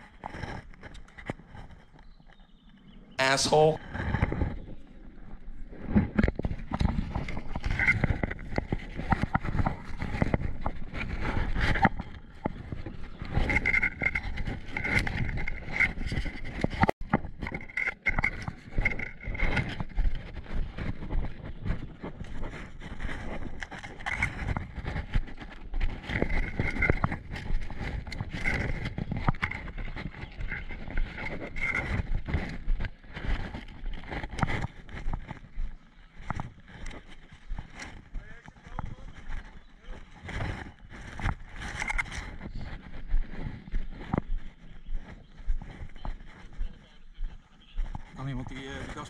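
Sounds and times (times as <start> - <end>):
leaves rustling against camera: 0.0 - 49.0
footsteps and knocks: 3.2 - 49.0.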